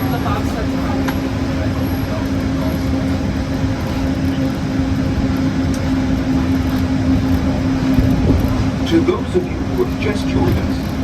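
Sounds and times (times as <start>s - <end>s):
monorail cabin hum and rumble: 0.0s - 11.0s.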